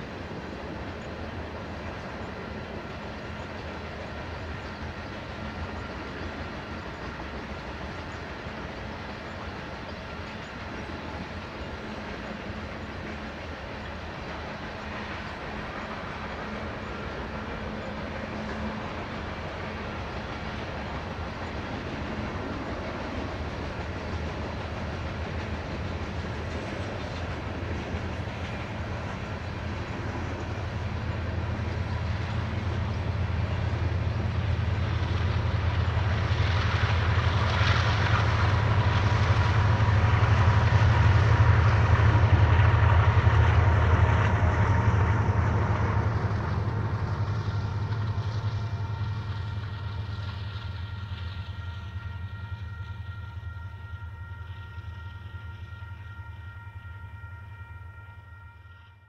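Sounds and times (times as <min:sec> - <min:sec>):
train wheels rumbling on rails: 0:00.0 - 0:58.2
diesel locomotive engine rumble: 0:00.0 - 0:59.0.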